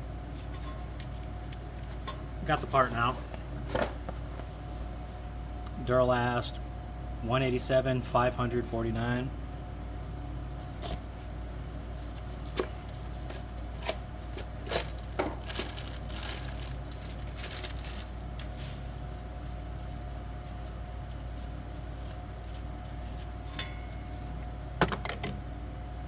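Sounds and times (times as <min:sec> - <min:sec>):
shop fan humming: 0:00.0 - 0:26.0.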